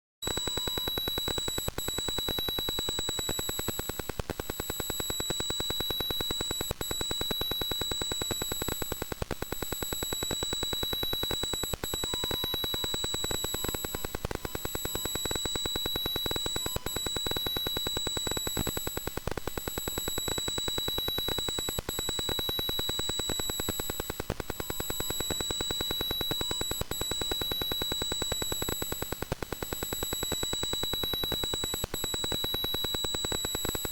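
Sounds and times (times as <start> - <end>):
rapid crackling buzz of clicks: 0.2 - 33.9.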